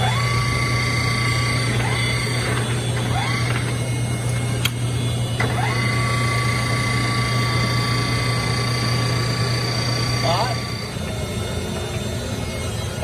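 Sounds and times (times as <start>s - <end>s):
high whine: 0.0s - 13.0s
lathe humming: 0.0s - 13.0s.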